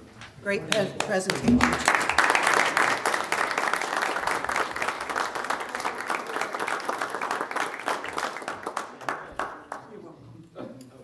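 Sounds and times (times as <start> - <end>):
audience applauding: 0.7 - 10.0.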